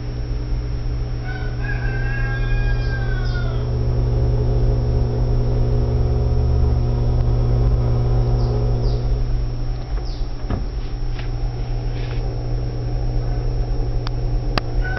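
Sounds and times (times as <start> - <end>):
washing machine motor hum: 0.0 - 14.9.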